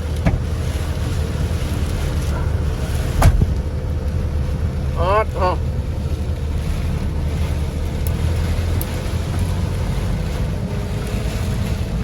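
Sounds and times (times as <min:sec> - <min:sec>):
storm wind buffeting microphone: 0:00.0 - 0:12.0.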